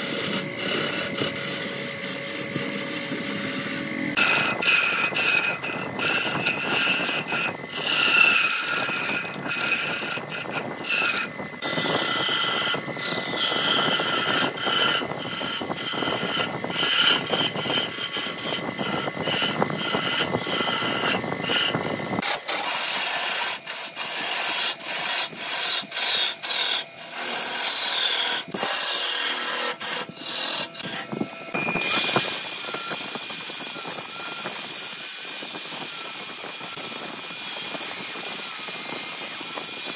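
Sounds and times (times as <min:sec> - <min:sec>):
chisel scraping wood: 0:00.0 - 0:35.2
angle grinder sanding whine: 0:00.0 - 0:39.9
wood lathe hum: 0:00.0 - 0:39.9.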